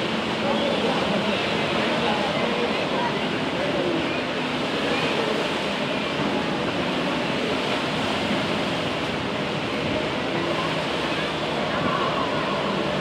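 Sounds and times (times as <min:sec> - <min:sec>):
motorboat and jet-ski engines: 0:00.0 - 0:13.0.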